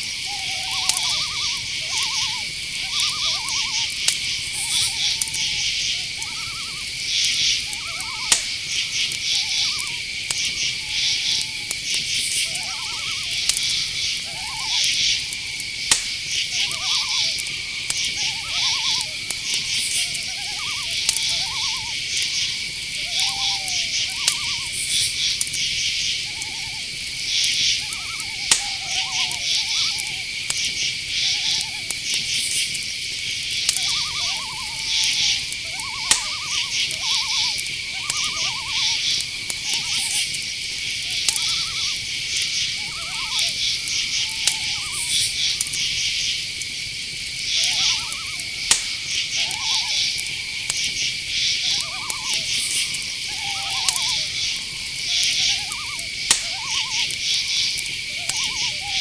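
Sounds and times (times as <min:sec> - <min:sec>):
owl hooting: 0:00.0 - 0:46.6, 0:47.3 - 0:59.0
crickets and insects trilling: 0:00.0 - 0:59.0
sharp ticks: 0:00.0 - 0:59.0.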